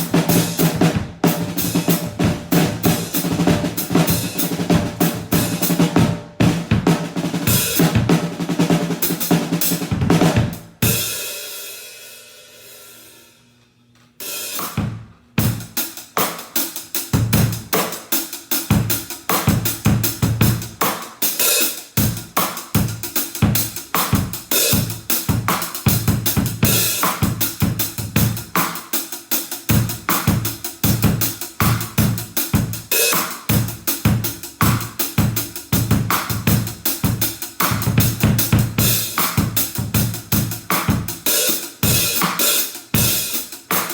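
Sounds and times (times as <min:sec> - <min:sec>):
acoustic drum kit beat: 0:00.0 - 0:13.2, 0:14.2 - 0:43.9.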